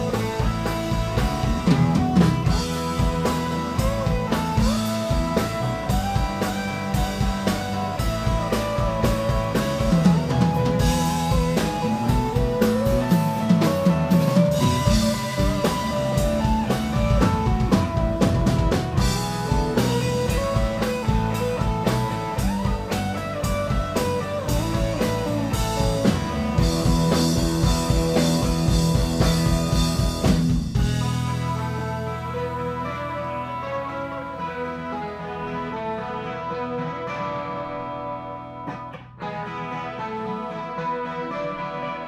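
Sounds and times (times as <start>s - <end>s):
drum kit: 0.0s - 36.3s
electric bass: 0.0s - 40.4s
electric guitar lead lines: 0.0s - 42.0s.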